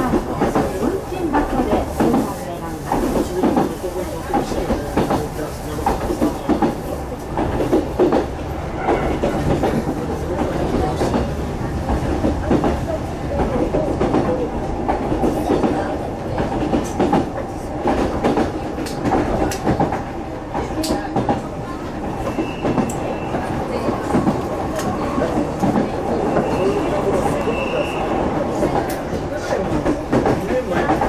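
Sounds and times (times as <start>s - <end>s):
train rumbling with hum: 0.0s - 31.0s.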